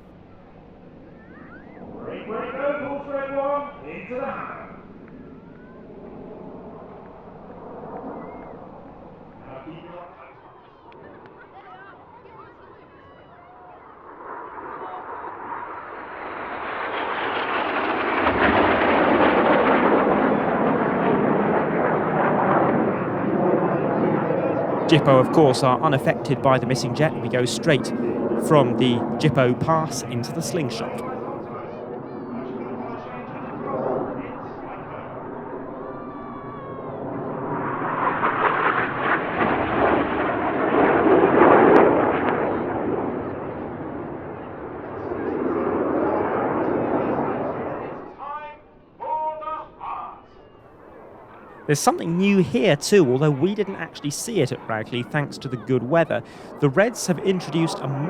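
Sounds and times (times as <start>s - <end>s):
jet aircraft flying past: 0.0s - 13.0s, 13.6s - 48.3s, 50.8s - 58.0s.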